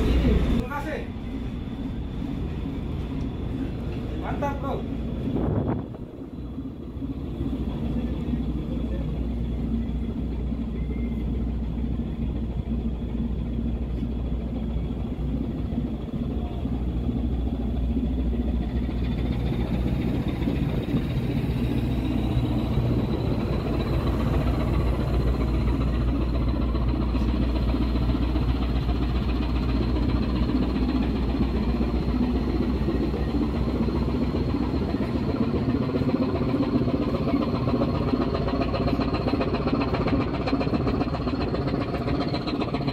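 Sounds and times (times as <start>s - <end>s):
ship engine rumbling: 0.0s - 42.9s
thin high whine: 0.0s - 42.9s.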